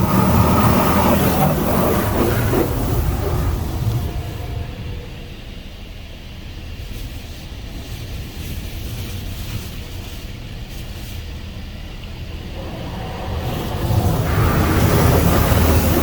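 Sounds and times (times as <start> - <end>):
high-pressure water hissing: 0.0 - 5.7, 6.8 - 16.0
car wash machine rumble: 0.0 - 16.0.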